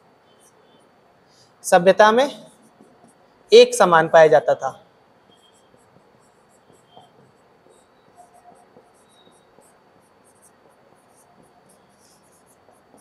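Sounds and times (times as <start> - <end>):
marker pen writing on whiteboard: 0.2 - 1.2, 2.1 - 3.5, 4.3 - 13.0.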